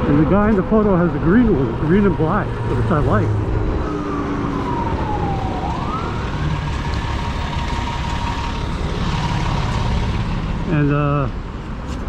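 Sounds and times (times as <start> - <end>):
low rumble of wind: 0.0 - 12.0
traffic rumble: 0.0 - 12.0
emergency vehicle siren wailing: 0.1 - 11.4.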